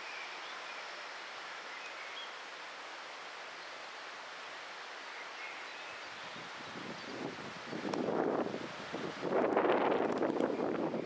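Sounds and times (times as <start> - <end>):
wind and rustling hiss: 0.0 - 11.0.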